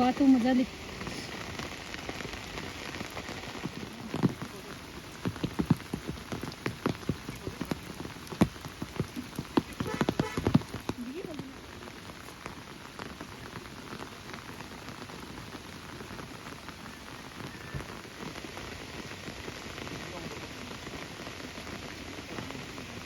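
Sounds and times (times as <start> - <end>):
large raindrops tapping: 0.0 - 23.0
steady rain: 0.0 - 23.0.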